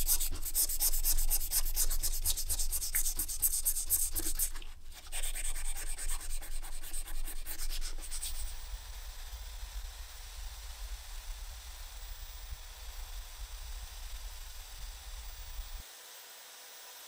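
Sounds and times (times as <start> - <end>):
sandpaper scratching metal: 0.0 - 15.8.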